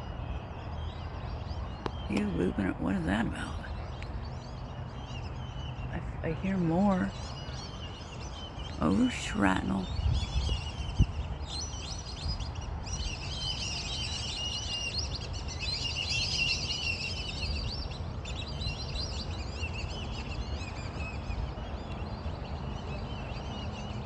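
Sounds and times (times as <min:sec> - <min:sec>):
flock of birds chattering: 0:00.0 - 0:24.0.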